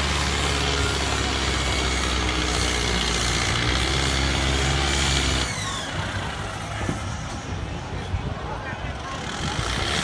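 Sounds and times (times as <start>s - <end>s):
tractor engine running hard: 0.0s - 10.0s.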